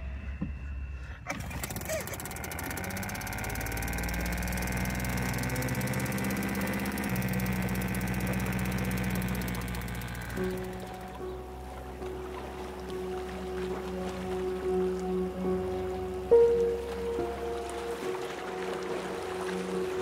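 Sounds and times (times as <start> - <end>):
outboard motor starting and running: 1.2 - 20.0.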